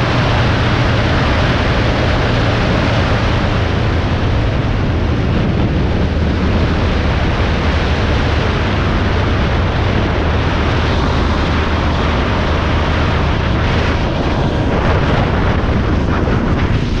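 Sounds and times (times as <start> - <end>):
low vehicle hum: 0.0 - 17.0
wind and road noise: 0.0 - 17.0.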